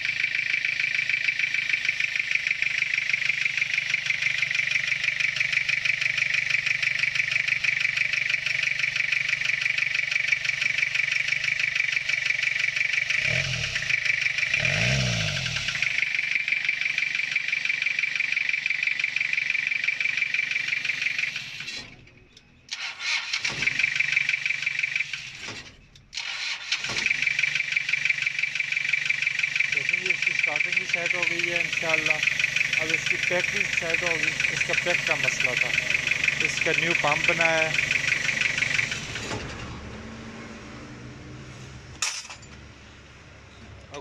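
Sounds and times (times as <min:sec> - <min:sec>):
diesel engine clattering: 0:00.0 - 0:44.0.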